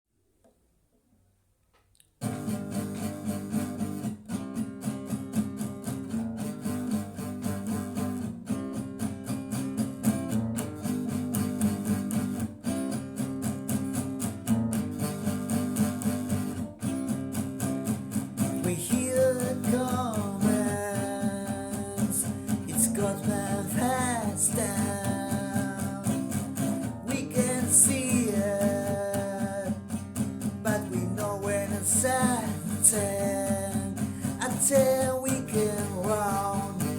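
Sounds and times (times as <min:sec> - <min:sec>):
strummed guitar chords: 0:02.2 - 0:36.9.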